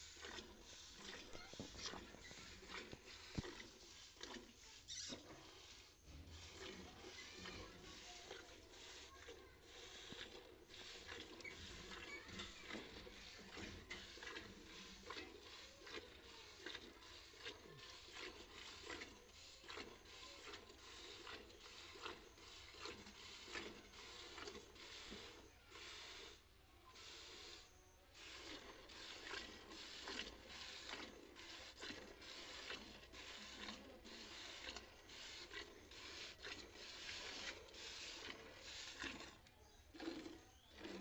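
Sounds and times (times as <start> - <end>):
milk squirting into metal pot: 0.0 - 41.0.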